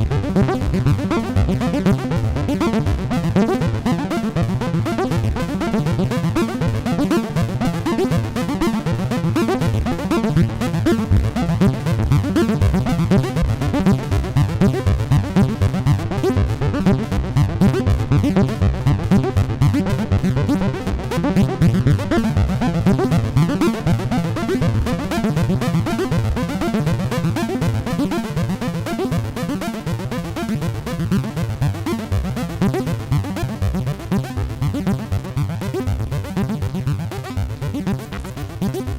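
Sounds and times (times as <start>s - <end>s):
synthesizer arpeggiated bass notes: 0.0s - 38.9s.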